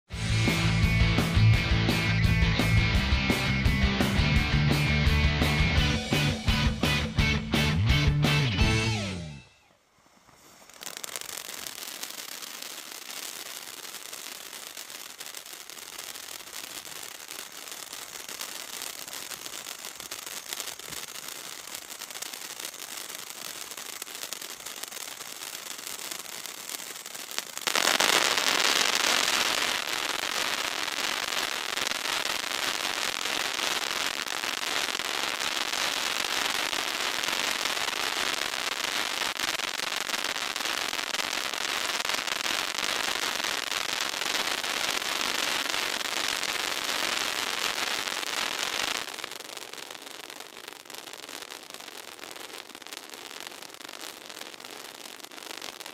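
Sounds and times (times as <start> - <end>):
firework fountain crackling: 0.0 - 55.9.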